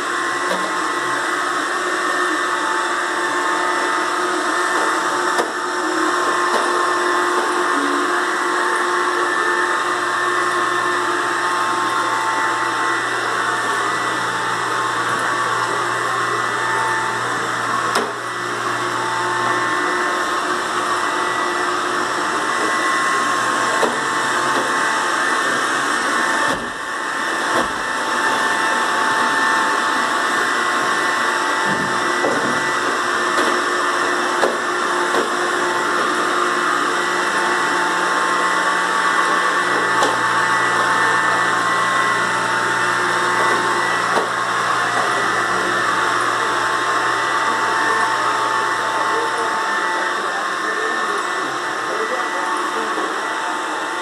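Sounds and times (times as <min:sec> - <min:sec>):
robot vacuum whirring: 0:00.0 - 0:54.0.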